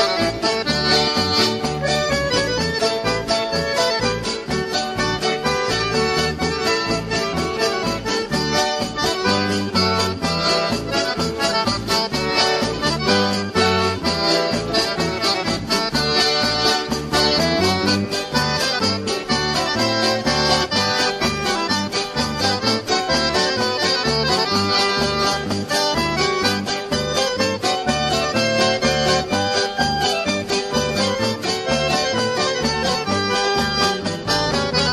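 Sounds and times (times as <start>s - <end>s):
accordion dance music: 0.0s - 34.9s
bass line: 0.0s - 34.9s
steady beat: 0.0s - 34.9s.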